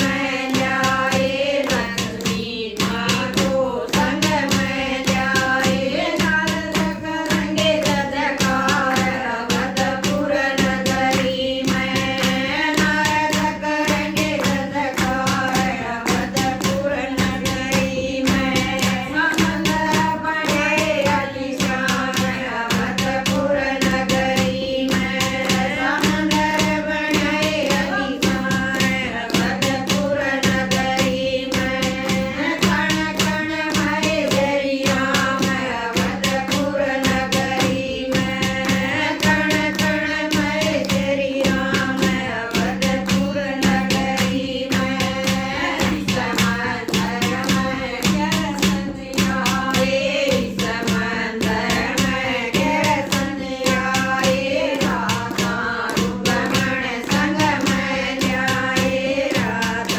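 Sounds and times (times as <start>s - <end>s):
hand clapping: 0.0s - 59.9s
women singing in unison: 0.0s - 59.9s.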